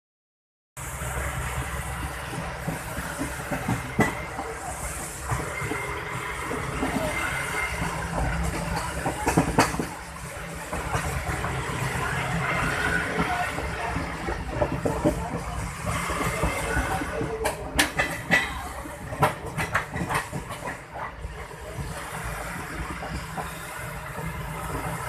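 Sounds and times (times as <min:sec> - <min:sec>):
train wheels rumbling on rail: 0:00.8 - 0:25.0.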